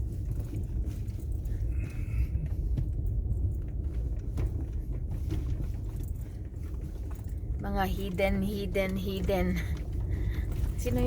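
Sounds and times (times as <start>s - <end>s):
car rumbling on dirt road: 0.0s - 11.0s
knocks and rattles: 0.0s - 11.0s.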